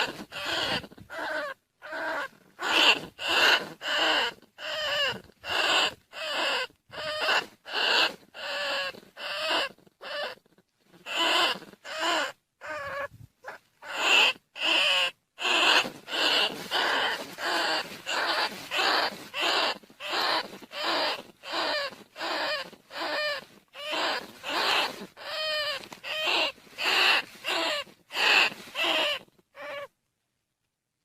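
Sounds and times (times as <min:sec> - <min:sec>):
shrill rat call squeaks: 0:00.0 - 0:10.4, 0:11.1 - 0:29.9.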